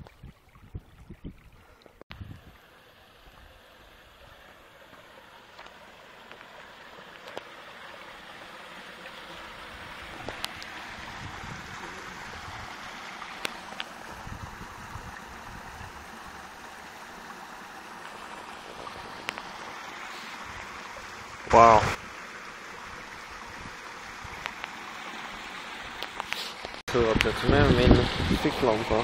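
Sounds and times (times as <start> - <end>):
stream splashing over rocks: 1.9 - 29.0.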